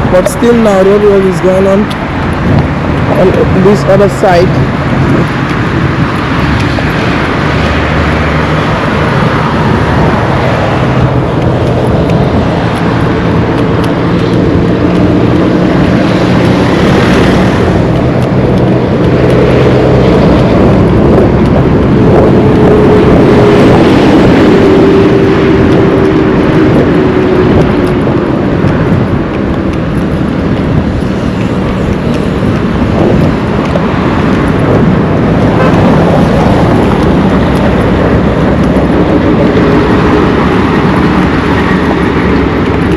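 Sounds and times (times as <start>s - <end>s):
vehicle engines running: 0.0s - 42.9s
vehicle passing: 0.0s - 42.9s.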